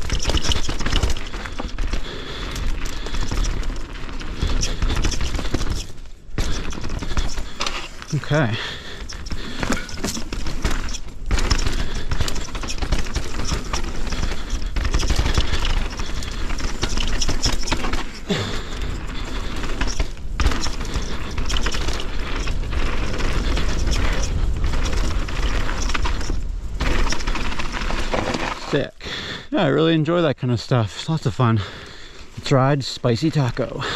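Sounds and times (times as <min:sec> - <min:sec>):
mountain bike clattering over rocks: 0:00.0 - 0:28.9.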